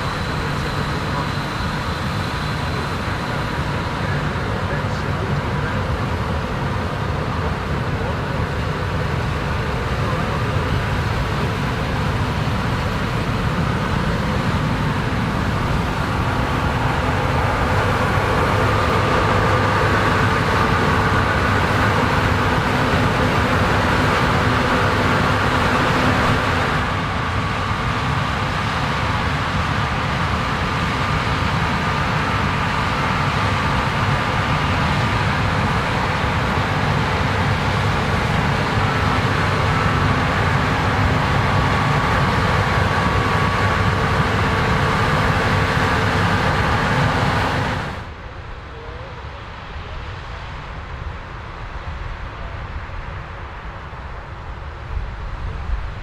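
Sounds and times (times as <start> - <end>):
diesel farm machinery running: 0.0 - 56.0
steady machine whine: 0.0 - 56.0.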